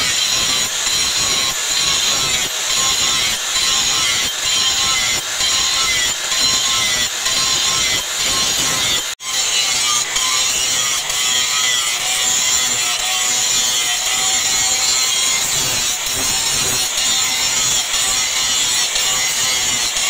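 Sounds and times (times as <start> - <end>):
angle grinder disc cutting steel: 0.0 - 20.0
grinder motor whine: 0.0 - 20.0.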